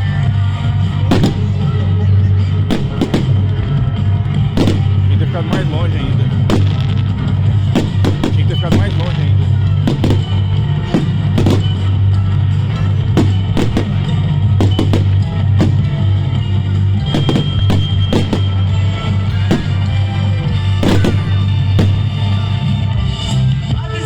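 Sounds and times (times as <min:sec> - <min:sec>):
music with heavy bass and drums: 0:00.0 - 0:24.0
fireworks banging: 0:01.0 - 0:23.4.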